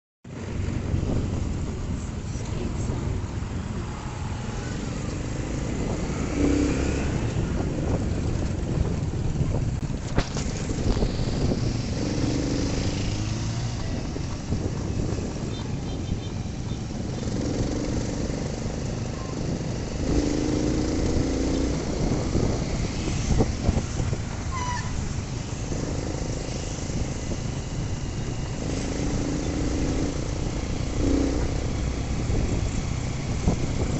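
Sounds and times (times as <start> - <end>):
motorcycle engine rumble: 0.3 - 33.9.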